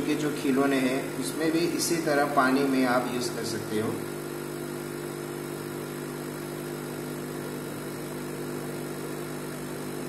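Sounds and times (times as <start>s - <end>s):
air pump humming: 0.0s - 10.0s.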